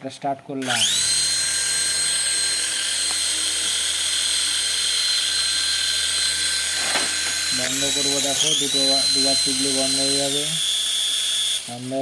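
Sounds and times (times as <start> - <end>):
toy helicopter motors whining: 0.6 - 12.0.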